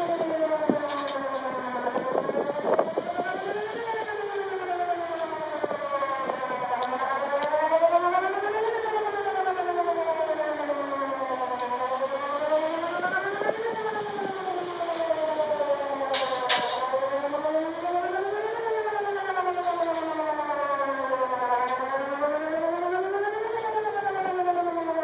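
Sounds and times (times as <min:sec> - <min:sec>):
warning siren wailing: 0:00.0 - 0:25.0.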